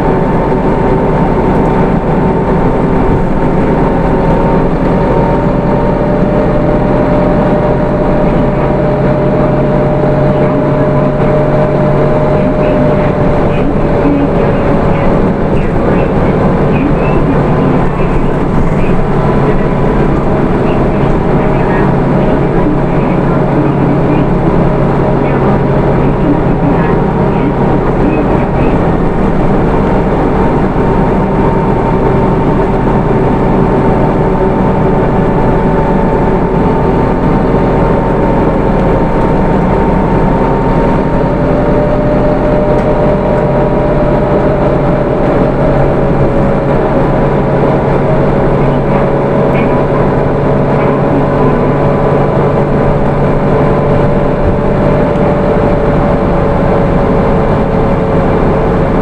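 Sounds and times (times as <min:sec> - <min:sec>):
bus engine rumble: 0:00.0 - 0:59.0
drivetrain whine: 0:00.0 - 0:59.0.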